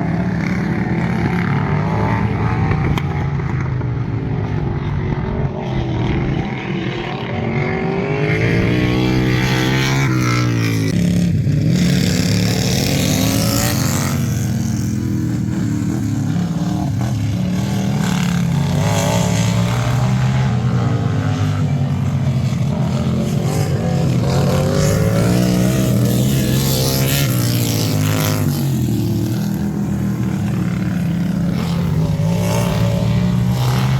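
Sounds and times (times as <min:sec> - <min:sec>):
lawn tractor engines revving: 0:05.8 - 0:33.9.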